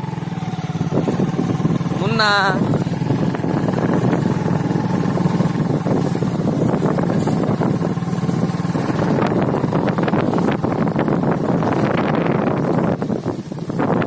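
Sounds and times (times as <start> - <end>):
motorcycle engine humming: 0.0 - 14.0.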